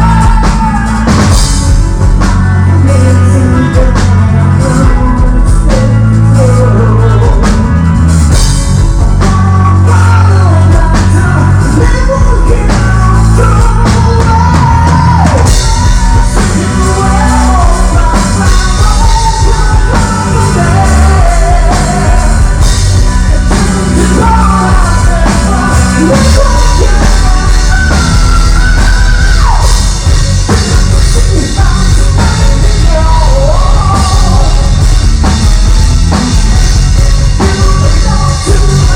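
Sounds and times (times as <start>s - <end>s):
rock music with singing: 0.0s - 38.9s.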